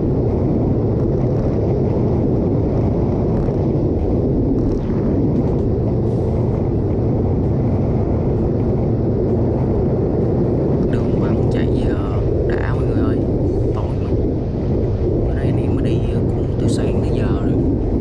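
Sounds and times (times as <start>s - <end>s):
wind and road noise on microphone: 0.0s - 18.0s.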